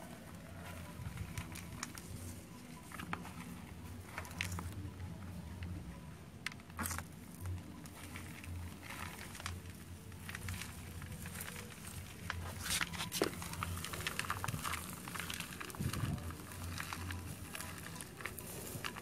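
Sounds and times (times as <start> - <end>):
hands rustling potting soil: 0.0 - 19.0.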